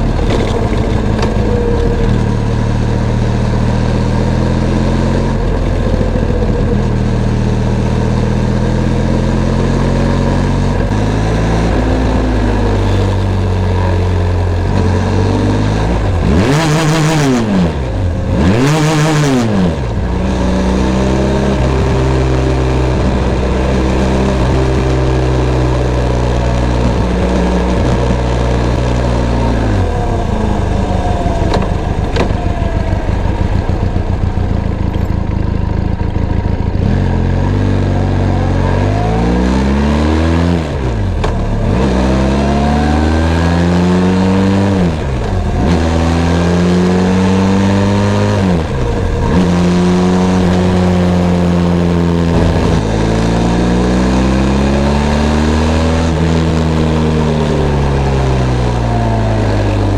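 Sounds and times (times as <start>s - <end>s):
engine revving: 0.0s - 59.9s
motorcycle engine running: 0.0s - 59.9s.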